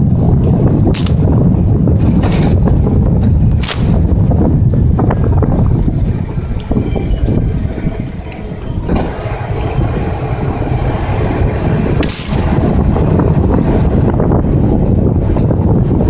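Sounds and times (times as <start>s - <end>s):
broad rushing noise: 0.0s - 16.0s
car engine running: 0.0s - 16.0s.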